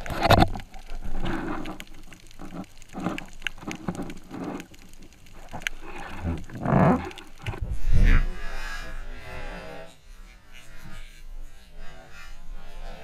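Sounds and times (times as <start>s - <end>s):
muffled underwater water gurgle: 0.0s - 13.0s.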